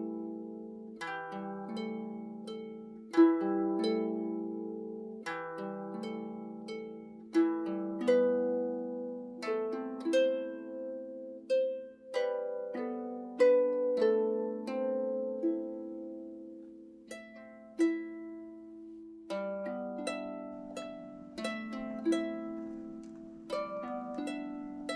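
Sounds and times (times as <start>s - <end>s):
plucked string instrument music: 0.0s - 24.9s.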